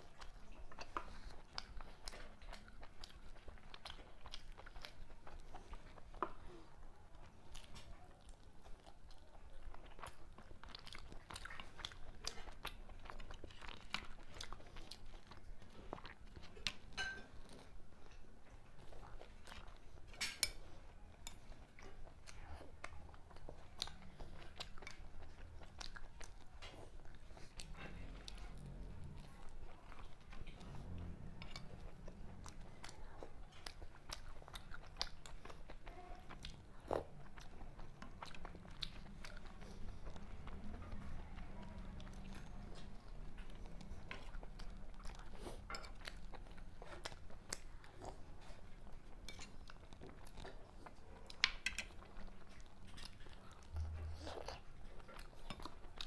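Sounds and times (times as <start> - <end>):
chewing and mouth sounds: 0.0 - 56.0.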